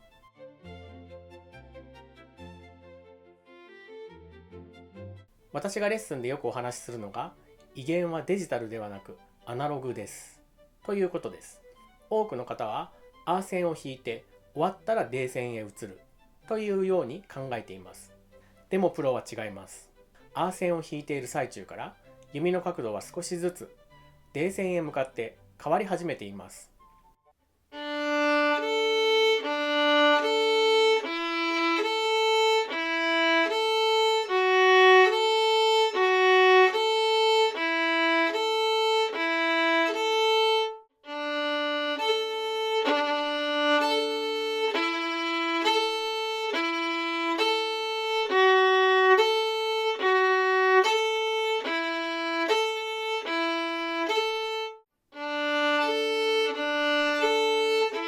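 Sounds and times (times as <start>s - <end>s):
solo violin playing: 0.0s - 26.6s, 27.7s - 58.0s.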